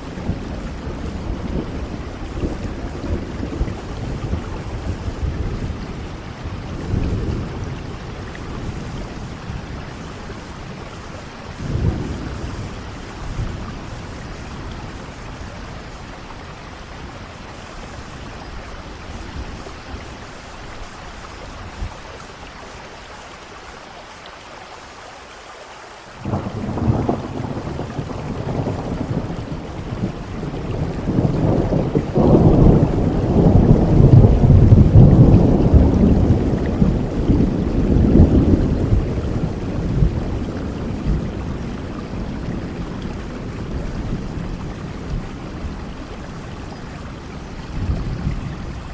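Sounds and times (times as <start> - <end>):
thunder rumbling: 0.0 - 22.4, 26.2 - 48.9
steady rain: 0.0 - 48.9.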